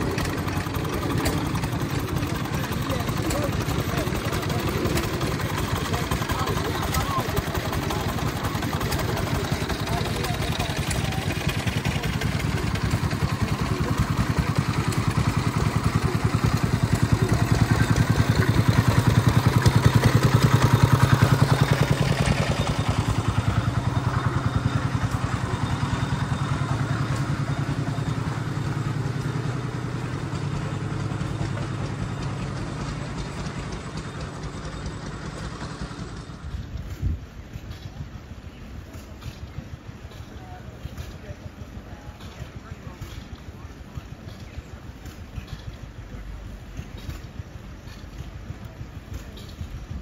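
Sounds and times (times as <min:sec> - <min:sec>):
diesel train engine running: 0:00.0 - 0:50.0.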